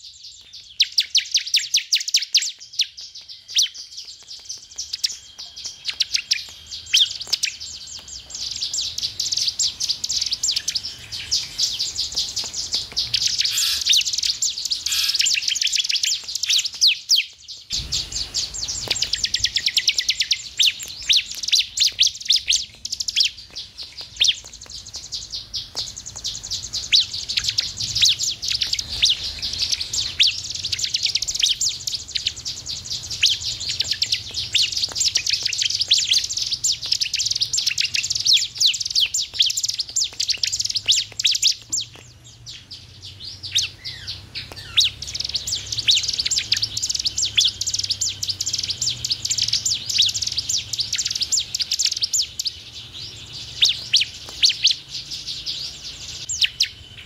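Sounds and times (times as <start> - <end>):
bird chirping and trilling: 0.0 - 57.0.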